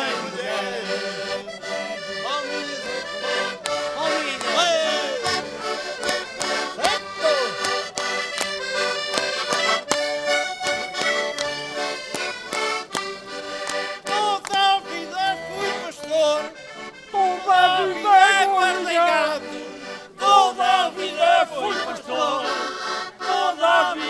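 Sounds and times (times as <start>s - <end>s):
concertinas playing folk music: 0.0s - 24.0s.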